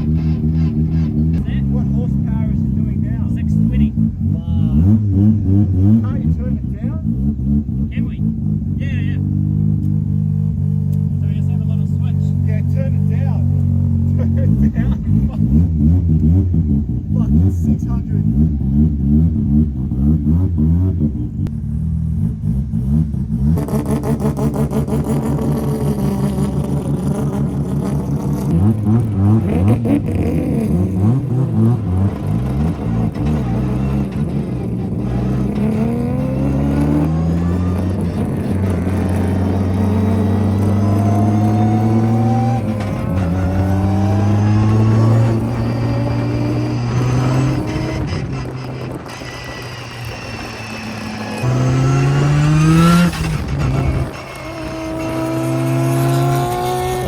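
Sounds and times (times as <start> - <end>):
rotary engine revving: 0.0 - 57.0.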